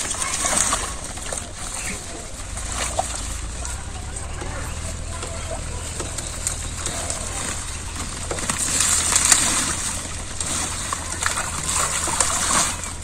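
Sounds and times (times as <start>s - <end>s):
leaves crackling and rustling: 0.0s - 13.0s
water sloshing: 0.0s - 13.0s.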